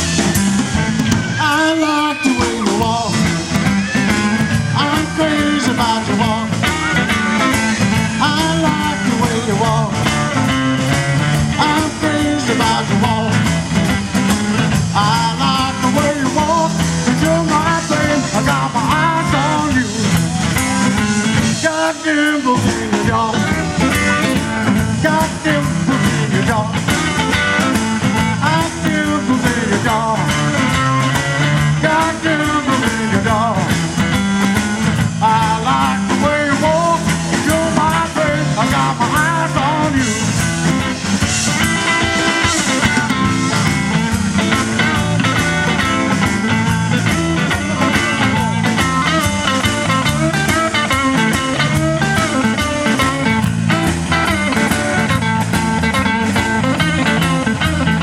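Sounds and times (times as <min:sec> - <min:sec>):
drum kit: 0:00.0 - 0:58.0
electric guitar: 0:00.0 - 0:58.0
man singing: 0:00.9 - 0:58.0.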